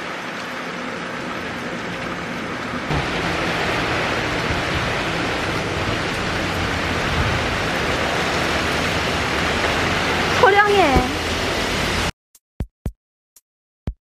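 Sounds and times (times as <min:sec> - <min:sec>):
heavy rain on street: 0:00.0 - 0:12.1.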